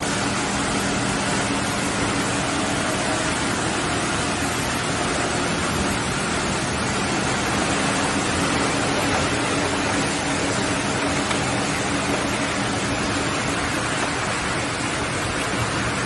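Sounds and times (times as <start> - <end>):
industrial machinery din: 0.0 - 16.0.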